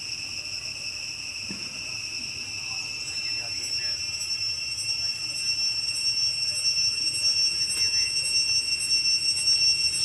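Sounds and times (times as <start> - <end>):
insects buzzing: 0.0 - 10.0.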